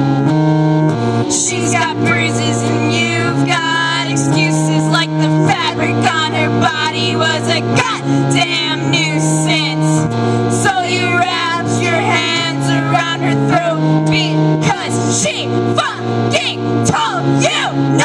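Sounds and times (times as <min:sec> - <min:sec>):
electric guitar: 0:00.0 - 0:18.0
keyboard: 0:00.0 - 0:18.0
woman singing: 0:01.3 - 0:18.0.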